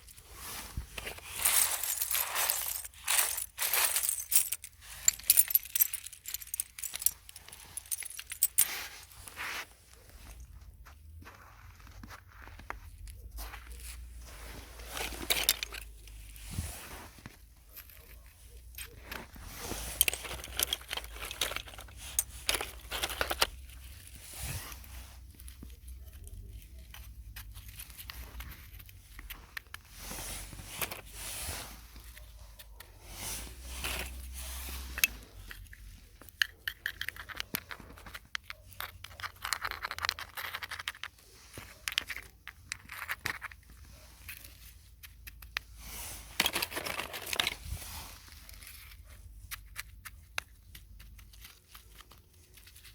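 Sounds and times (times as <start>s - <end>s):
rustling and crinkling handling: 0.0s - 52.9s.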